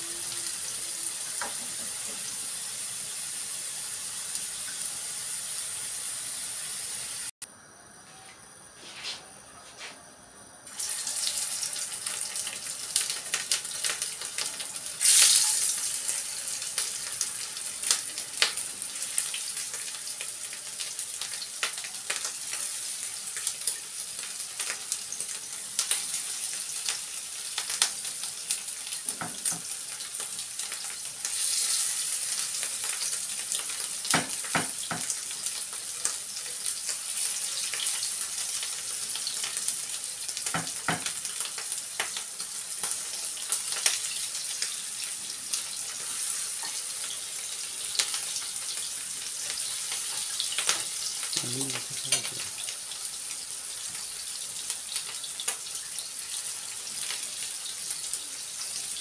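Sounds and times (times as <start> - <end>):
meat sizzling in hot oil: 0.0 - 7.4, 10.7 - 59.0.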